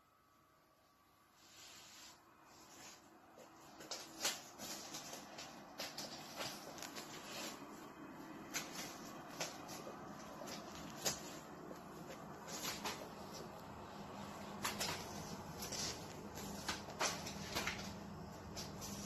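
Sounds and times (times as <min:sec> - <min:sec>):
kitten paws skittering on floor: 0:01.6 - 0:19.0.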